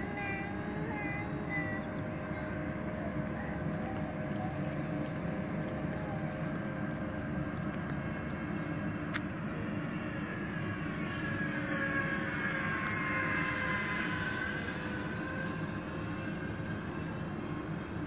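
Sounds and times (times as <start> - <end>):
model jet fans whining: 0.0 - 18.0
thin high whine: 0.0 - 18.0.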